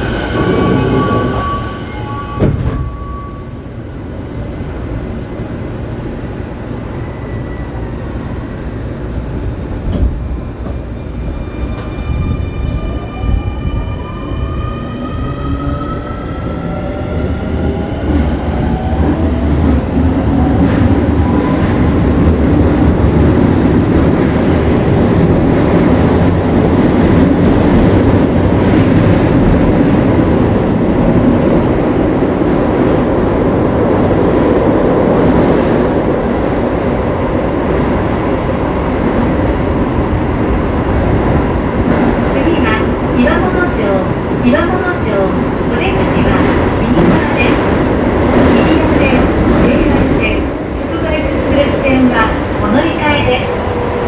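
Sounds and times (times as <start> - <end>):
rumble of wheels on rail: 0.0 - 54.0.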